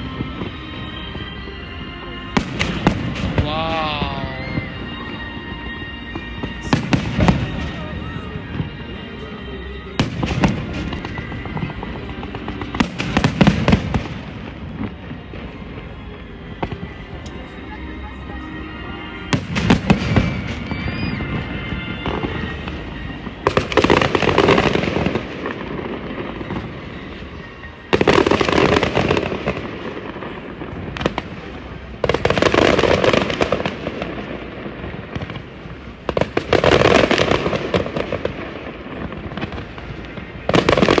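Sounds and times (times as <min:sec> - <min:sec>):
fireworks crackling: 0:00.0 - 0:41.0
fireworks bangs: 0:02.4 - 0:09.0, 0:10.0 - 0:16.0, 0:19.2 - 0:41.0.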